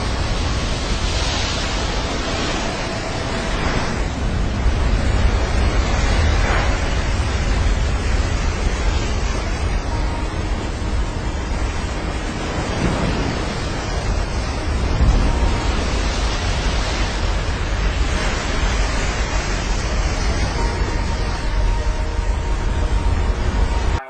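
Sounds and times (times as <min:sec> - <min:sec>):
waves breaking: 0:00.0 - 0:24.0
wind buffeting microphone: 0:00.0 - 0:24.0.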